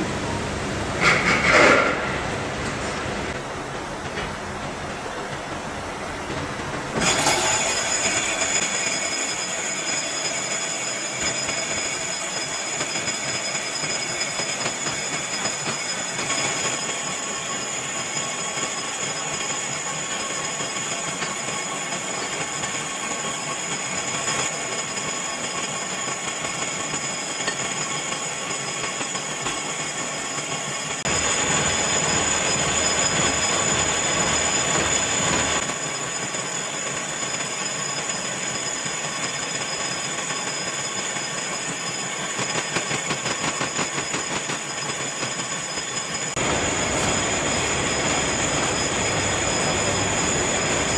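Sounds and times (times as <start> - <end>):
metalworking machinery whining: 0.0 - 50.9
fast rhythmic mechanical pulsing: 8.0 - 50.9.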